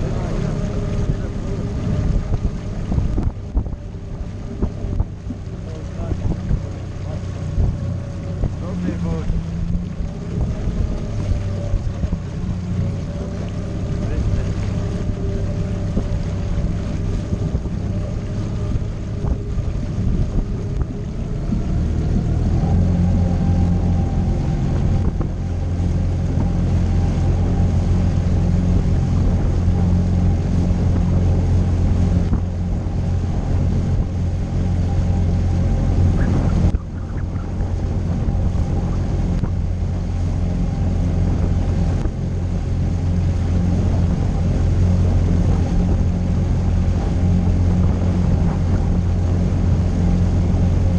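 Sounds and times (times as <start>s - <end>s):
outboard motor running: 0.0s - 50.9s
water rushing past hull: 0.0s - 50.9s
wind buffeting microphone: 0.0s - 50.9s.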